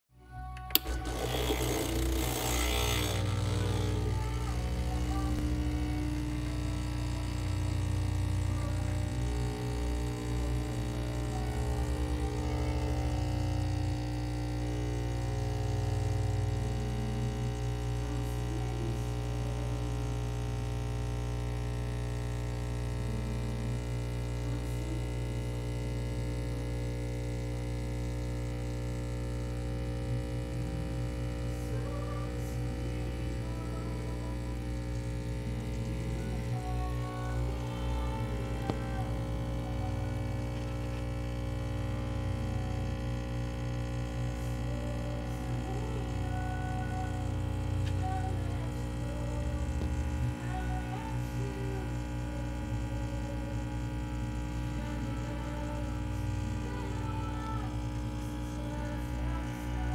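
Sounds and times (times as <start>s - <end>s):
espresso machine pump humming: 0.3s - 59.9s.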